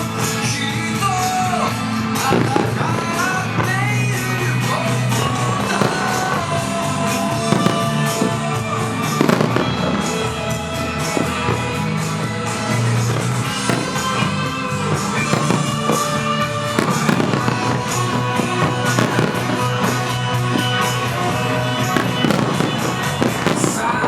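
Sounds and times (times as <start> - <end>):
fireworks bangs: 0.0 - 24.0
pop music: 0.0 - 24.0.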